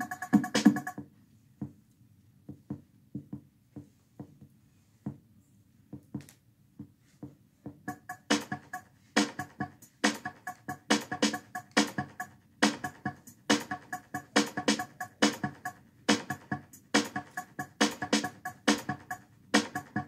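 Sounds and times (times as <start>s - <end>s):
music with a steady beat: 0.0s - 1.8s, 2.5s - 4.5s, 5.9s - 20.0s.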